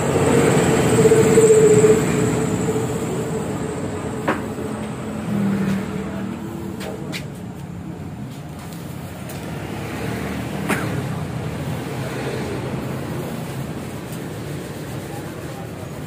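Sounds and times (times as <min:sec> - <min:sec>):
passing road traffic: 0:00.0 - 0:16.0.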